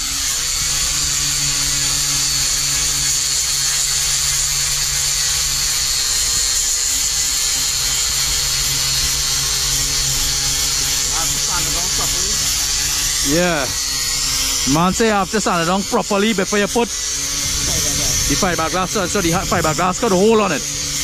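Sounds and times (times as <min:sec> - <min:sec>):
angle grinder sanding: 0:00.0 - 0:21.0.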